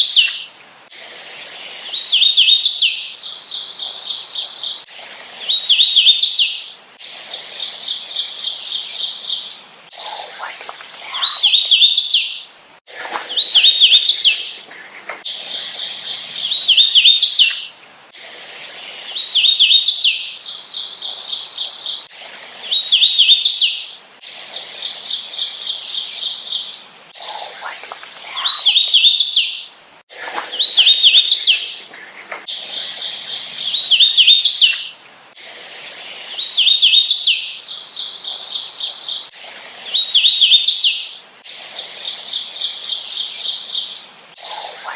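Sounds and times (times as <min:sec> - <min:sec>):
warbler whistled song: 0:00.0 - 0:00.6, 0:01.6 - 0:06.8, 0:07.4 - 0:12.6, 0:13.3 - 0:14.7, 0:15.3 - 0:17.8, 0:18.6 - 0:24.0, 0:24.8 - 0:29.8, 0:30.4 - 0:35.0, 0:36.1 - 0:39.3, 0:39.9 - 0:41.2, 0:42.0 - 0:44.9
rapid repeated bird notes: 0:00.0 - 0:44.9.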